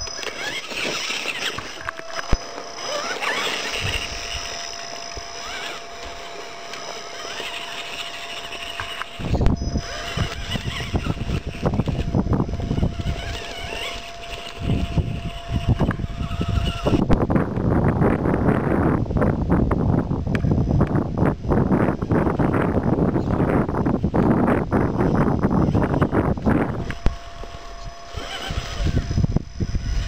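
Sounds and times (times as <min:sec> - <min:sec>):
electric motor whining: 0:00.0 - 0:30.0
low rumbling buffeting microphone: 0:00.0 - 0:30.0.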